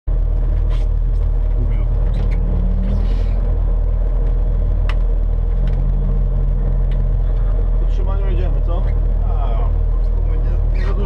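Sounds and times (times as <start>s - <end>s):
car engine idling: 0.1s - 11.0s.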